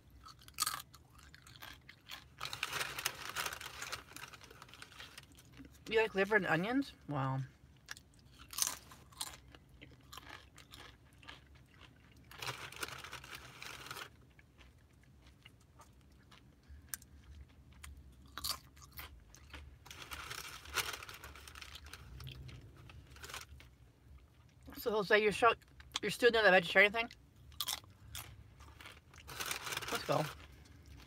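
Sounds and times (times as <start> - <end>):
person chewing crisp chips: 0.0 - 5.9, 7.6 - 24.7, 27.1 - 31.0.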